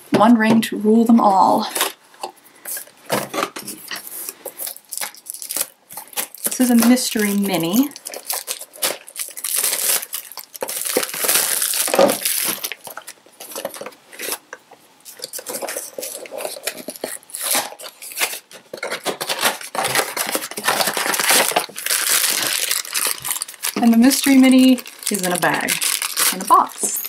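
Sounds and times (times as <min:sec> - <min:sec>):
plastic bag crinkling and tearing: 0:02.7 - 0:27.0.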